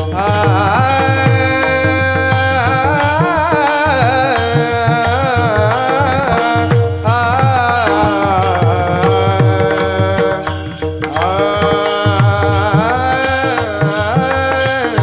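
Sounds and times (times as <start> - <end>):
drum rhythm: 0.0 - 15.0
person singing melodic line: 0.0 - 15.0.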